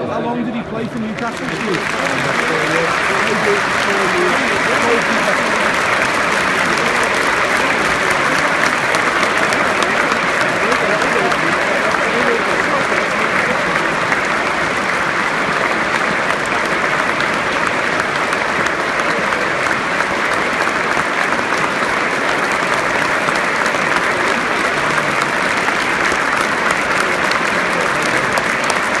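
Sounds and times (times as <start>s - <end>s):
stadium crowd clapping: 0.0s - 29.0s.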